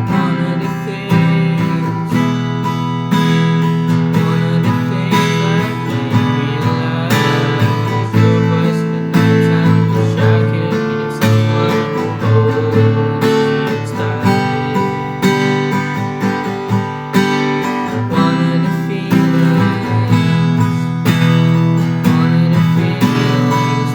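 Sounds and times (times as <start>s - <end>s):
acoustic guitar strumming chords: 0.0s - 23.9s.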